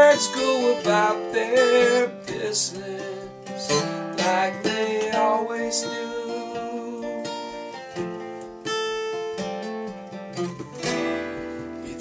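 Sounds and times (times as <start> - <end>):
acoustic guitar plucked and strummed: 0.0 - 12.0.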